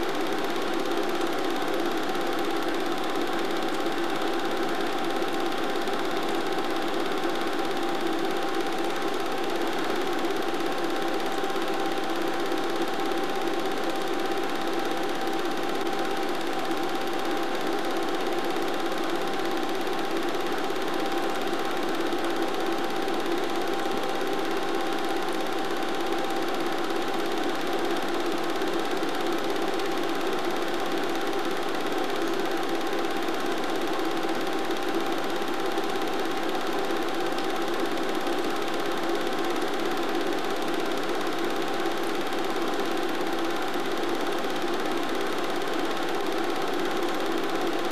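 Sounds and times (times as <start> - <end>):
film projector whirring: 0.0 - 47.9.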